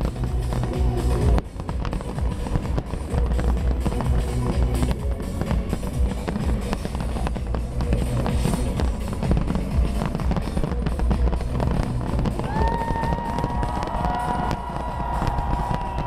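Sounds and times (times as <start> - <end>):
deep fireworks booms: 0.0 - 16.0
fireworks bangs and crackles: 0.0 - 16.0
loud music: 0.0 - 16.0.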